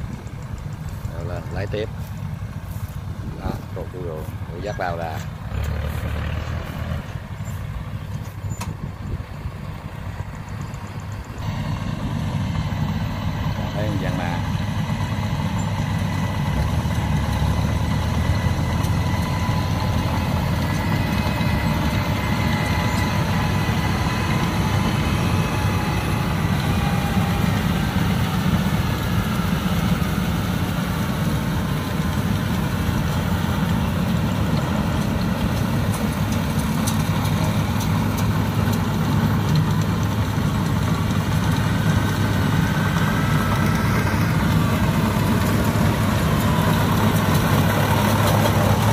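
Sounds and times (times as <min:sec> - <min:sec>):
combine harvester engine drone: 0:00.0 - 0:48.9
faint machinery whine: 0:00.0 - 0:48.9.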